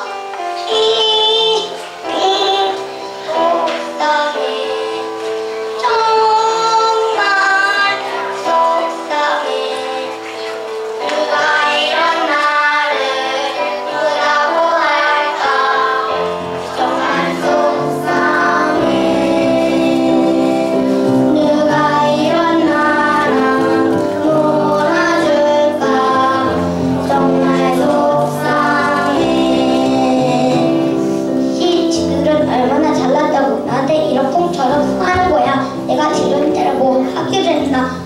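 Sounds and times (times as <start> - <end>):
child singing into a microphone: 0.0 - 38.0
instrumental backing track: 0.0 - 38.0.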